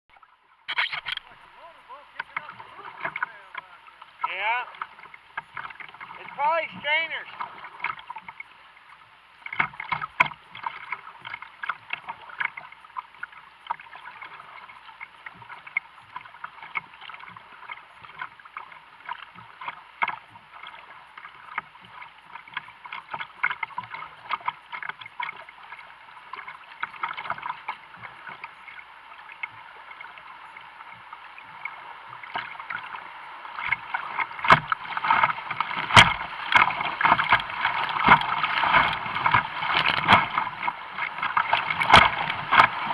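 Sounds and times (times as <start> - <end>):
paddle strokes splashing: 0.1 - 42.9
water slapping hull: 0.7 - 42.9.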